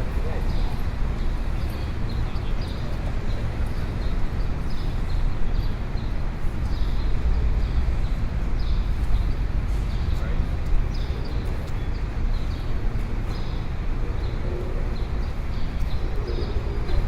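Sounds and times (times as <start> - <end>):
traffic and crowd rumble: 0.0 - 17.0.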